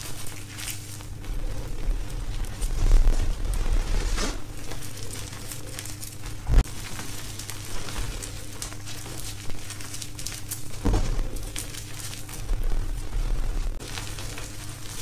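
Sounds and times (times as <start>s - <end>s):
chalk powder crunching: 0.0s - 15.0s.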